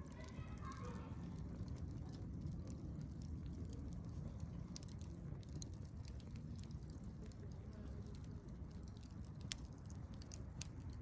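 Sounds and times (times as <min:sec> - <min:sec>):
campfire crackling: 0:00.0 - 0:11.0
fire pops: 0:00.0 - 0:11.0.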